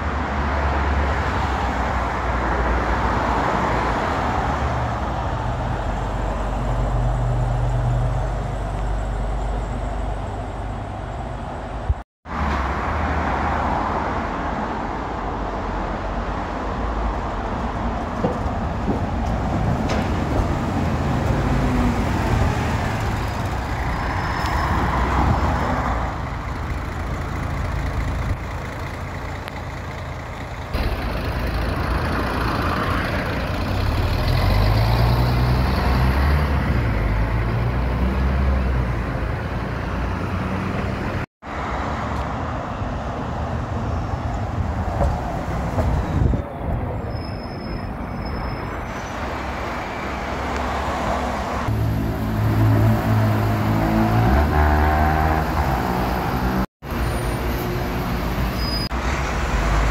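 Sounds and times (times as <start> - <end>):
bus diesel engines: 0.0 - 59.9
traffic noise: 0.0 - 59.9.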